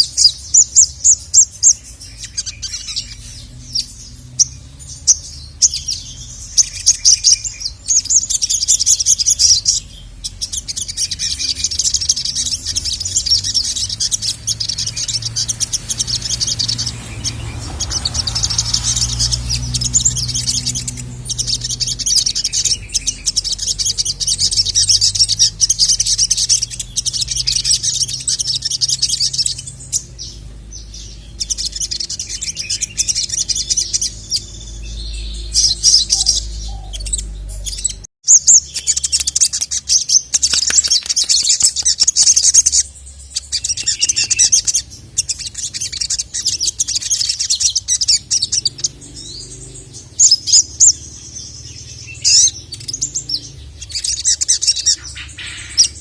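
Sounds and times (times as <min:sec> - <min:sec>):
bird singing high chattering song: 0:00.0 - 0:56.0.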